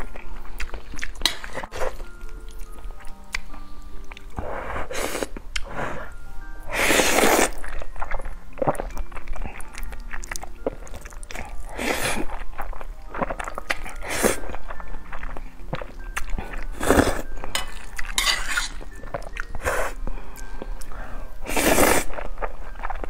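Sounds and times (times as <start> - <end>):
wet chewing: 0.0 - 4.4, 7.0 - 23.0.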